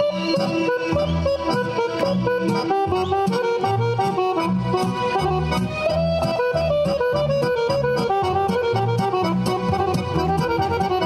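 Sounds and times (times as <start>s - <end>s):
lively folk dance music: 0.0s - 11.0s.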